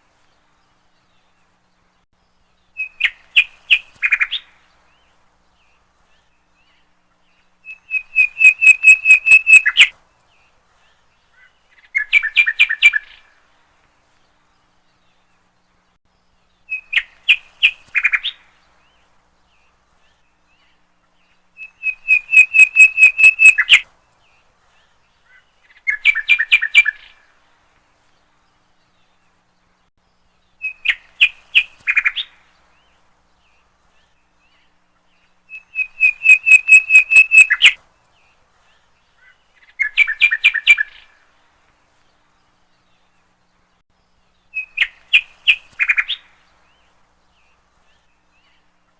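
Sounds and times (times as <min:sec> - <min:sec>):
bird chirping: 0:00.2 - 0:27.4, 0:28.0 - 0:48.9.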